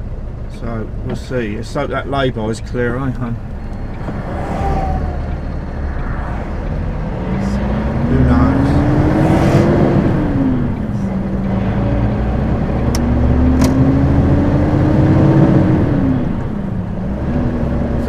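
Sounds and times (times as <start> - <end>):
lorry diesel engine running: 0.0 - 18.0.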